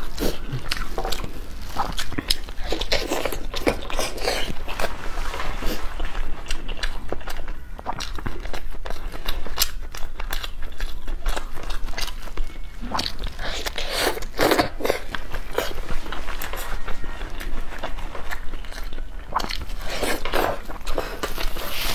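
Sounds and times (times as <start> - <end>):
chewing and crunching food: 0.0 - 21.9.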